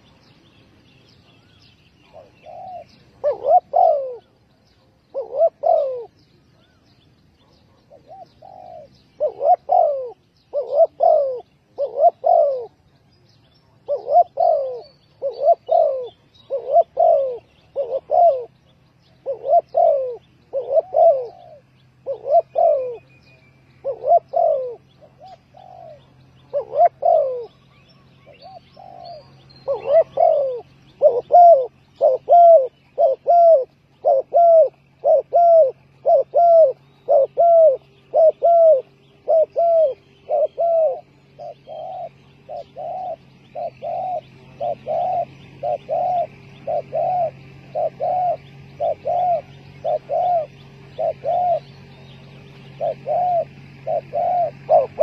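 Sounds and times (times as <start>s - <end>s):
dove cooing: 0.0s - 6.8s, 7.4s - 12.9s, 13.5s - 55.0s.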